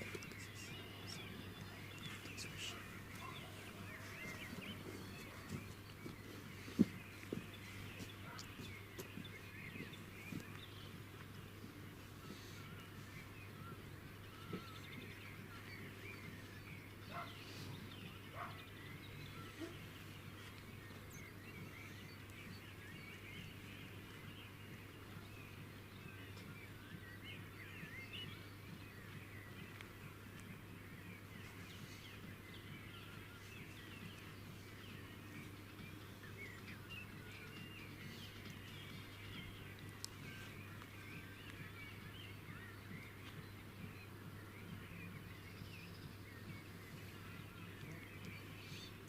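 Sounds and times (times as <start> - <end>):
small birds chirping and singing: 0.0 - 49.0.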